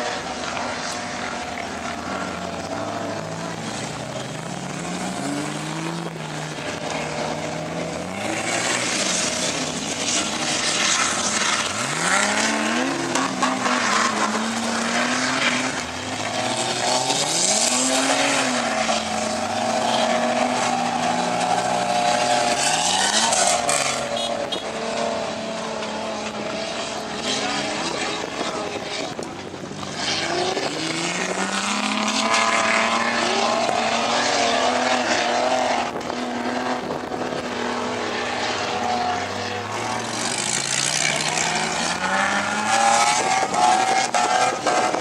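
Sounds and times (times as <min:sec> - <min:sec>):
engine revving hard: 0:00.0 - 0:29.0, 0:30.0 - 0:45.0.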